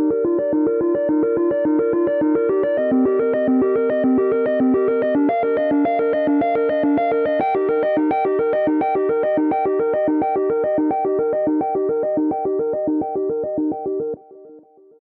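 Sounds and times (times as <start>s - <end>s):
synthesizer ringtone melody: 0.0s - 14.6s.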